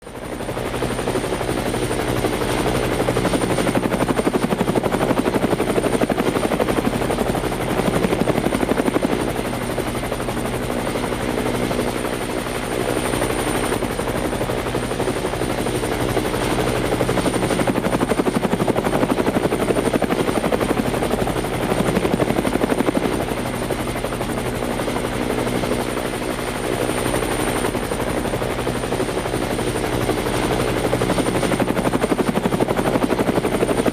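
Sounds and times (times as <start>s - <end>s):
helicopter engine hum: 0.0s - 33.9s
helicopter rotor chopping: 0.1s - 33.9s.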